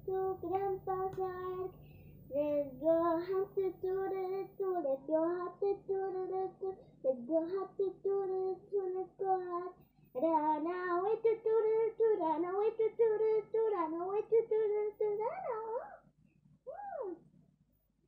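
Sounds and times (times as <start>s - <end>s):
girl singing: 0.0s - 15.9s.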